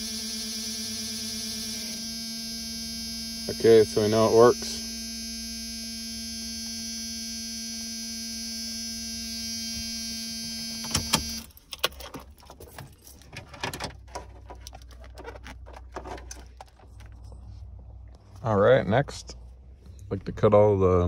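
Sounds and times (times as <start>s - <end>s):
car stereo electrical hum: 0.0s - 21.0s.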